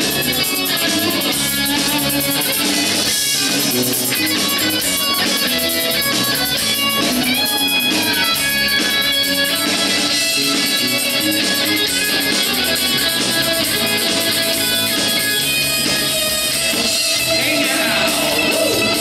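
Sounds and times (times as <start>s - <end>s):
bass guitar: 0.0s - 19.0s
drum kit: 0.0s - 19.0s
electric guitars: 0.0s - 19.0s
keyboards: 0.0s - 19.0s.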